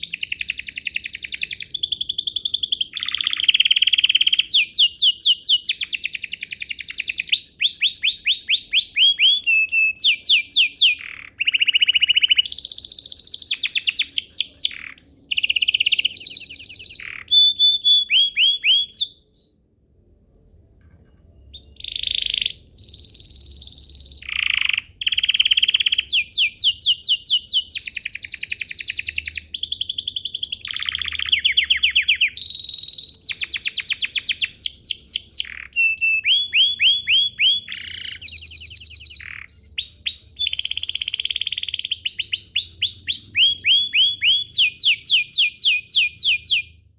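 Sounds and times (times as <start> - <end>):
canary singing fast trills: 0.0 - 19.6, 21.4 - 46.9.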